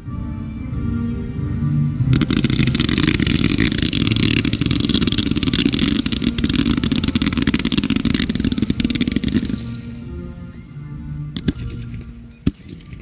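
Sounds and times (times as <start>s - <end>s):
fireworks crackling reports: 2.1s - 13.0s.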